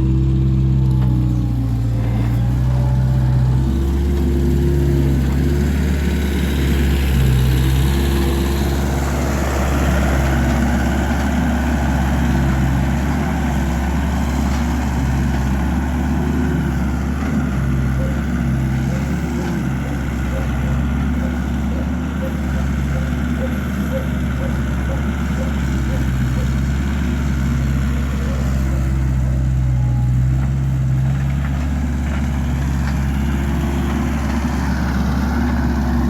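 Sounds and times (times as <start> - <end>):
farm machinery engine running: 0.0 - 36.0.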